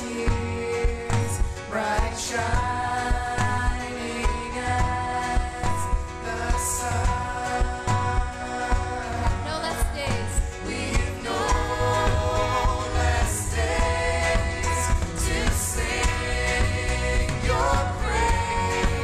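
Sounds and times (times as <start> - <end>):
congregation singing: 0.0 - 9.5, 10.3 - 19.0
acoustic guitar: 0.0 - 19.0
electric bass: 0.0 - 19.0
keyboard: 0.0 - 19.0
woman singing lead vocal: 0.0 - 19.0.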